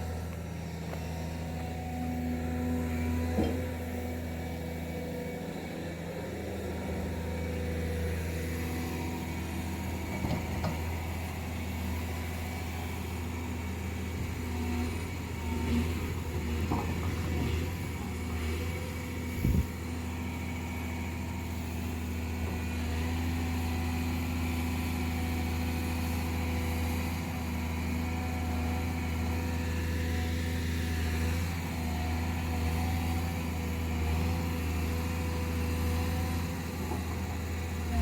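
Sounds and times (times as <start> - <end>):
large engine running: 0.0 - 38.0.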